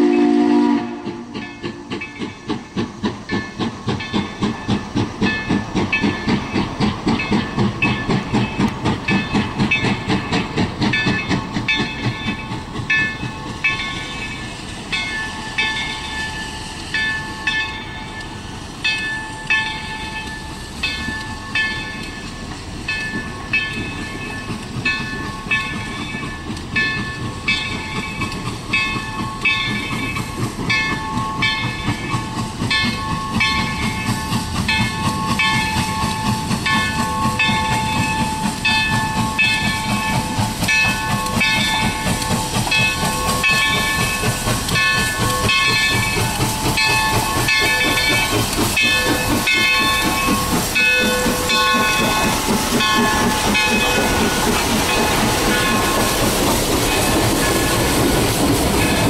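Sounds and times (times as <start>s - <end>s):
steam hissing: 0.0s - 59.0s
steam locomotive approaching: 0.0s - 59.0s.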